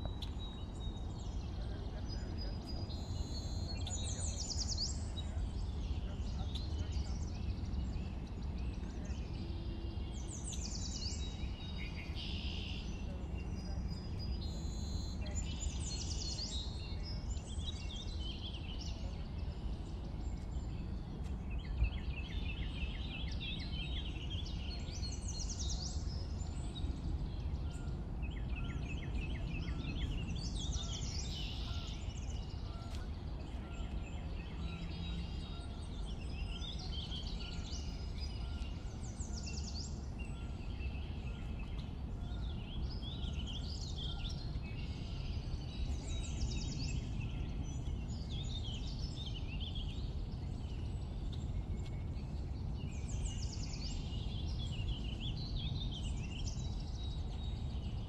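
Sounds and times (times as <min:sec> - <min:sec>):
birds singing: 0:00.0 - 0:58.0
low outdoor rumble: 0:00.0 - 0:58.0.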